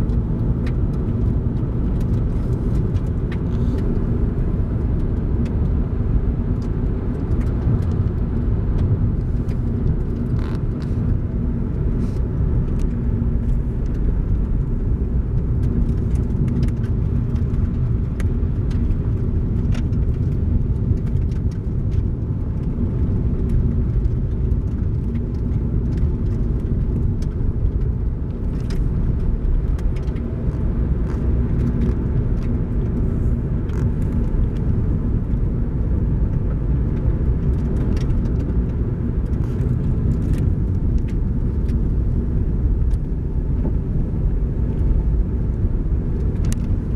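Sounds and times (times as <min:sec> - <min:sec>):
car road and engine rumble: 0:00.0 - 0:46.9.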